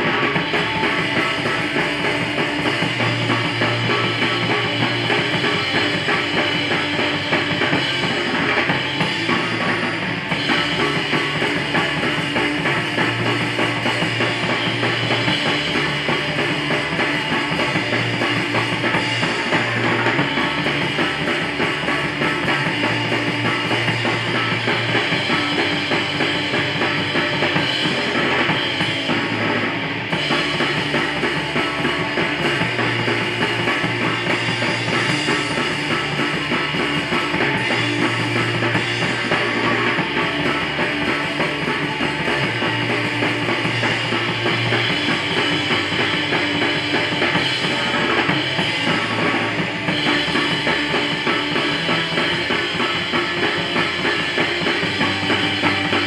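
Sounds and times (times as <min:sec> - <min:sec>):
drum kit with cymbals: 0:00.0 - 0:56.0
electric bass: 0:00.0 - 0:56.0
electric guitar: 0:00.0 - 0:56.0.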